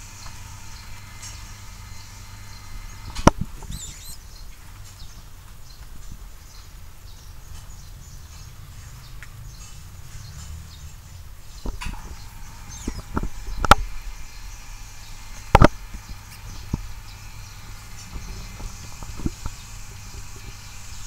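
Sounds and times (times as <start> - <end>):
rats moving in wood shavings: 0.0 - 6.6, 7.2 - 21.0
low steady hum: 0.0 - 21.0.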